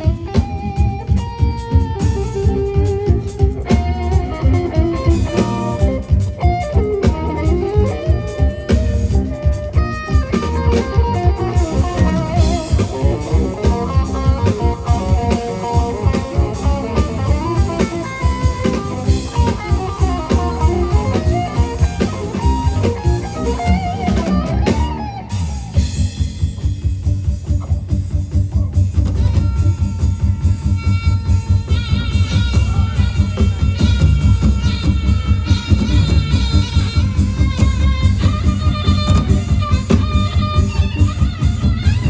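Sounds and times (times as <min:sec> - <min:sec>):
drum kit beat: 0:00.0 - 0:42.0
guitar: 0:00.0 - 0:42.0.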